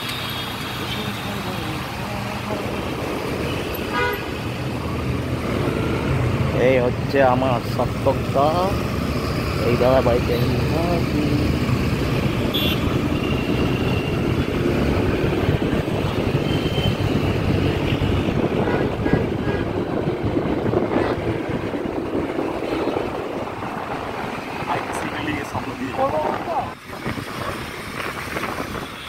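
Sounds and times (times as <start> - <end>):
wind rushing over microphone: 2.3 - 29.0.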